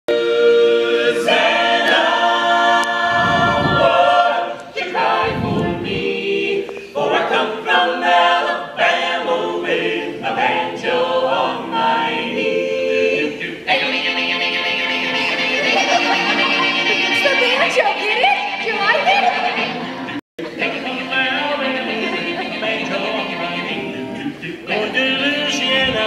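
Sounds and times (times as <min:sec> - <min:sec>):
group singing a cappella: 0:00.1 - 0:26.0.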